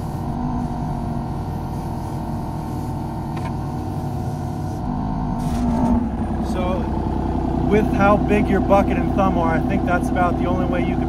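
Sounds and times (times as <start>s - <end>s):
diesel engine under load: 0.0s - 11.0s.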